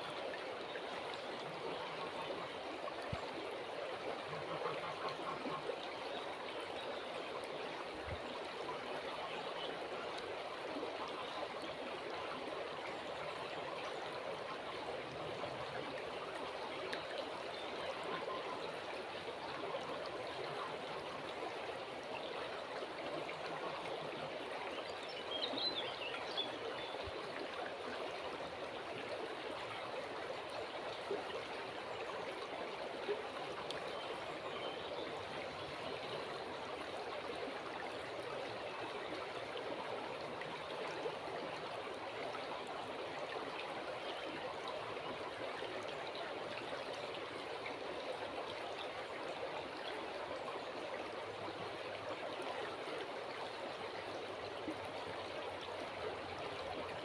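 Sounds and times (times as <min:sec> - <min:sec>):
river flowing: 0:00.0 - 0:57.0.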